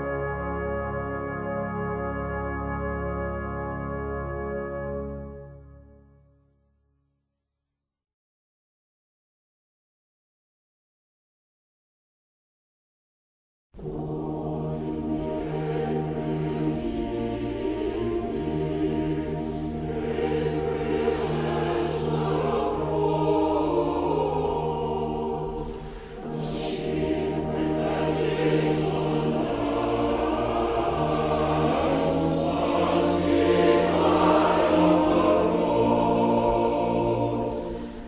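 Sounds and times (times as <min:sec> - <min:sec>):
choir singing sustained chords: 0:00.0 - 0:06.3, 0:13.8 - 0:38.0.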